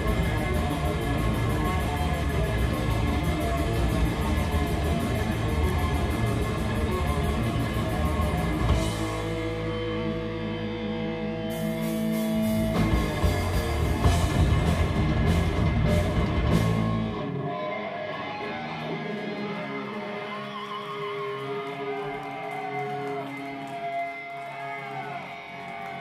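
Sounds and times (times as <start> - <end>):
electric guitar playing: 0.0 - 26.0
live rock band playing: 0.0 - 26.0.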